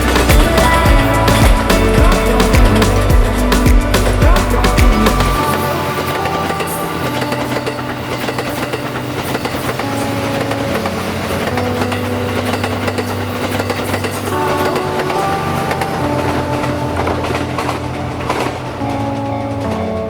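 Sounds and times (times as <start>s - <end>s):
diesel train engines running: 0.0s - 20.0s.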